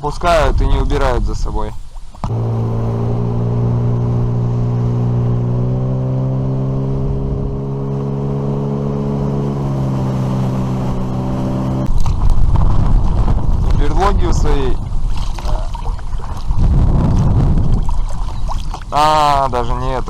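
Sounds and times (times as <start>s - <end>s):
wind buffeting microphone: 0.0s - 20.0s
outboard motor running: 1.9s - 20.0s.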